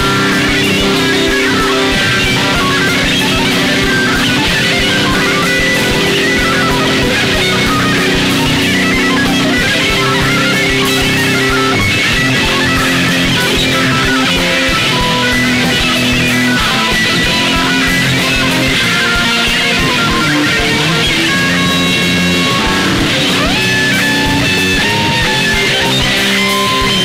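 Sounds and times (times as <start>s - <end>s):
distorted electric guitar lead: 0.0s - 27.0s
drums: 0.0s - 27.0s.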